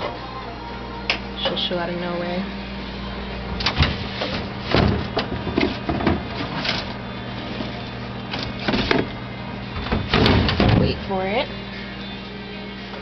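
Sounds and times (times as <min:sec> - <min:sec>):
refrigerator low hum: 0:00.0 - 0:13.0.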